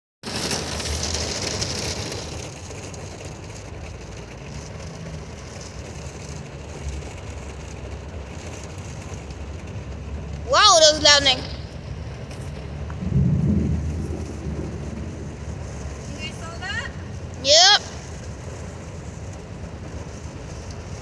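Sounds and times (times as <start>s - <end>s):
heavy rain falling: 0.2s - 21.0s.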